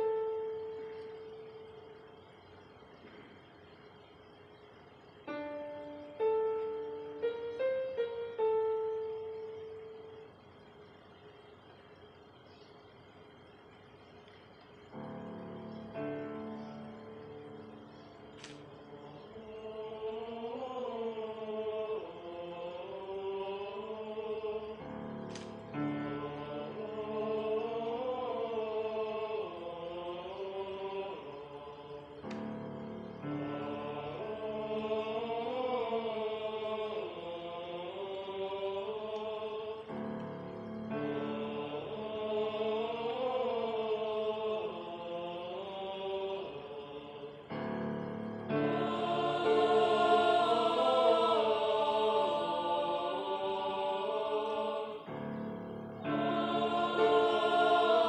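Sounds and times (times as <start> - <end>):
choir singing in harmony: 0.0 - 11.2, 14.9 - 58.0.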